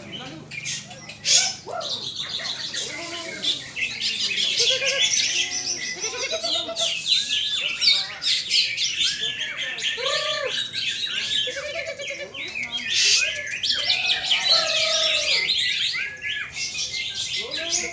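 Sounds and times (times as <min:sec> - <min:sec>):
songbirds chirping and trilling: 0:00.0 - 0:17.9.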